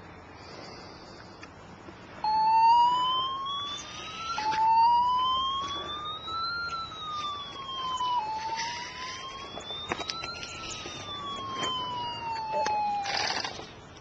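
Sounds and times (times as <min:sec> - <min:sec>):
siren wailing: 0:02.2 - 0:14.0.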